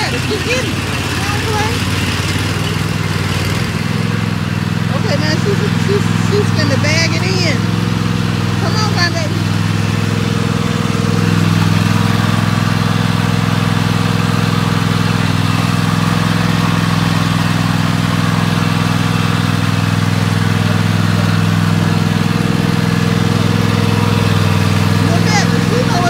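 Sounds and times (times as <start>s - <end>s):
riding lawn mower engine running: 0.0s - 26.0s.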